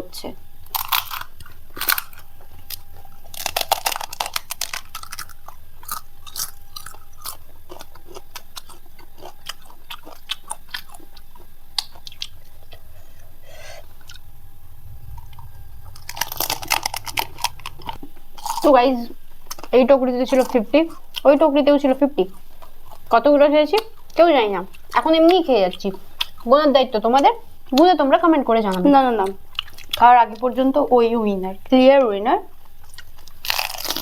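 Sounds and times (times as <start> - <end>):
crunching and chewing: 0.6 - 30.7, 32.4 - 34.0.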